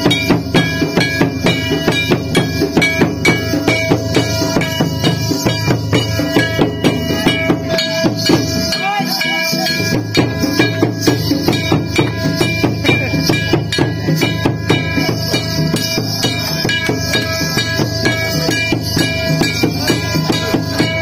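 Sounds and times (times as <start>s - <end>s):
fast drumbeat: 0.0s - 21.0s
jingling percussion: 0.0s - 21.0s.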